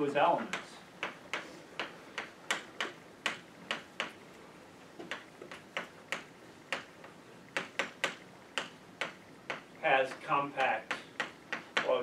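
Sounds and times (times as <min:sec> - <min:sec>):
chalk tapping and scraping on blackboard: 0:00.4 - 0:04.3, 0:05.0 - 0:12.0.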